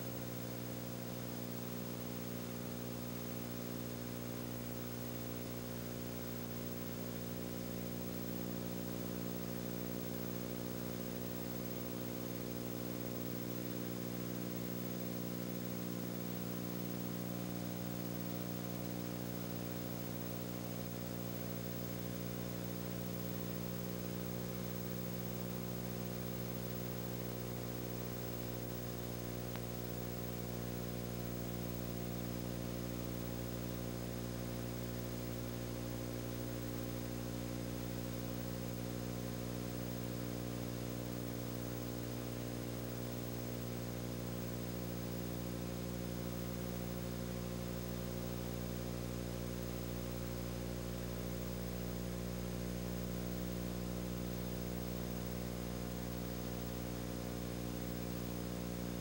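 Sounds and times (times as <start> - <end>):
low hum with overtones: 7.7 - 59.0.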